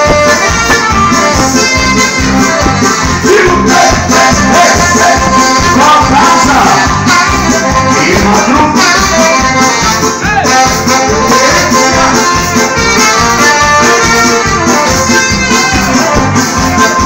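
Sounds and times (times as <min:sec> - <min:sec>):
drums: 0:00.0 - 0:17.0
keyboard: 0:00.0 - 0:17.0
saxophone: 0:00.0 - 0:17.0
trombone: 0:00.0 - 0:17.0.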